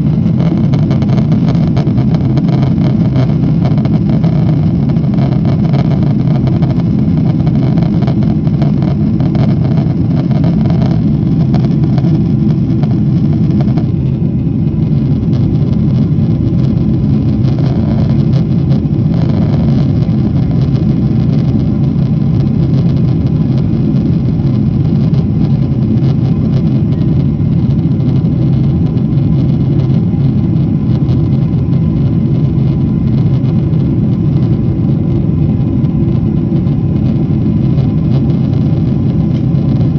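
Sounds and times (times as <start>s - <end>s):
low engine rumble: 0.0s - 39.9s.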